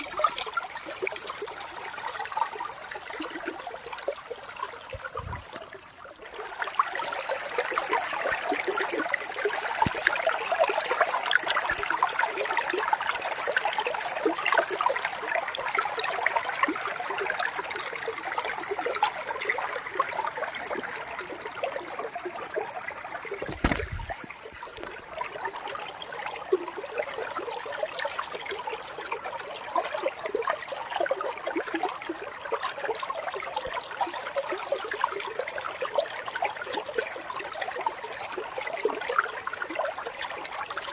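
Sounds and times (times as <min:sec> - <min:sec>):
water trickling and babbling: 0:00.0 - 0:40.9.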